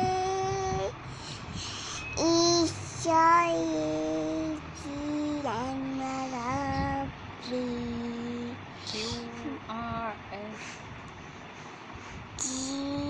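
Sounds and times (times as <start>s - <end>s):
young child singing held notes: 0.0s - 1.0s, 1.8s - 10.8s, 12.4s - 13.0s.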